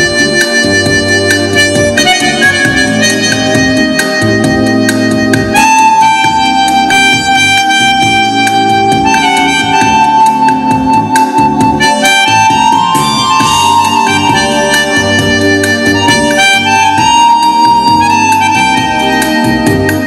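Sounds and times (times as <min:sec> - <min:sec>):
harmonica melody: 0:00.0 - 0:20.0
keyboard backing: 0:00.0 - 0:20.0
steady beat: 0:00.0 - 0:20.0.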